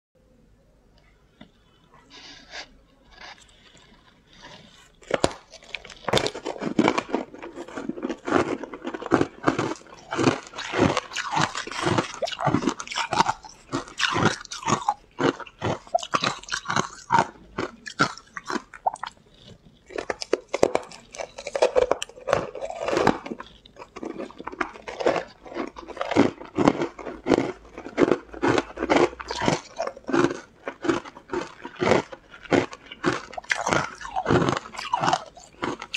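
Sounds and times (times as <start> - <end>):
ice crunching being chewed: 1.4 - 35.9.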